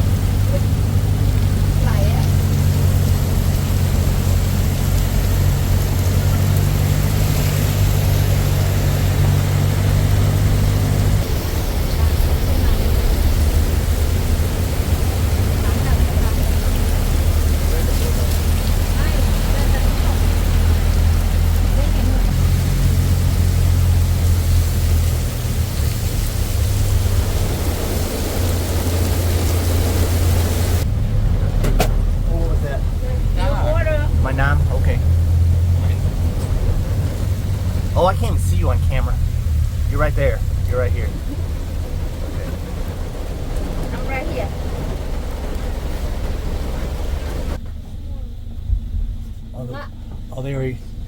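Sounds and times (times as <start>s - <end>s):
road noise: 0.0s - 51.0s
truck engine running: 0.0s - 51.0s.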